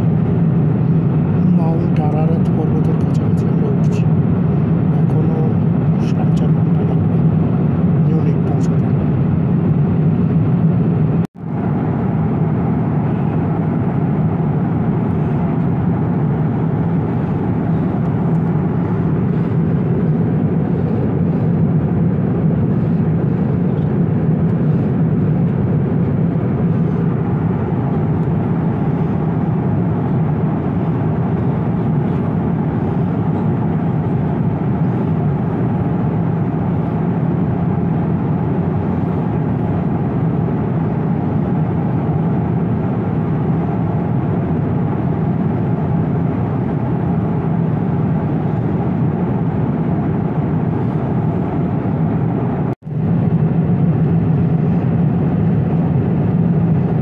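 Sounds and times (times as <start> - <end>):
jet airliner cabin rumble: 0.0 - 57.0.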